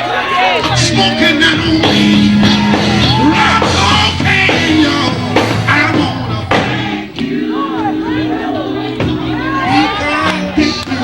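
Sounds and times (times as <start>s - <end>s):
drums: 0.0s - 11.0s
person singing wordlessly: 0.6s - 11.0s
steady bass line: 0.6s - 11.0s.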